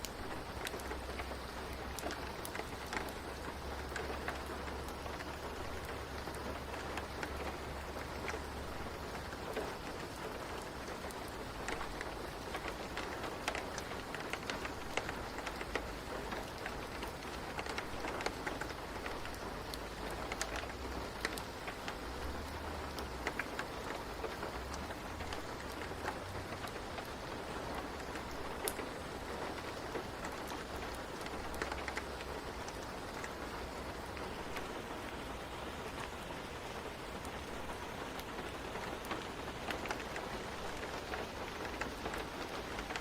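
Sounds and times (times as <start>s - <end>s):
steady rain: 0.0s - 43.0s
wood fire crackling: 0.0s - 43.0s.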